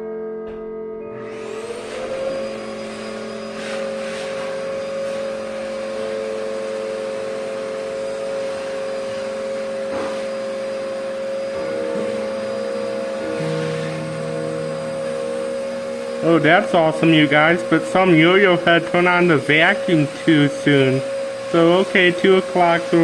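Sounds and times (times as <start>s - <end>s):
vacuum cleaner motor whine: 0.5s - 23.0s.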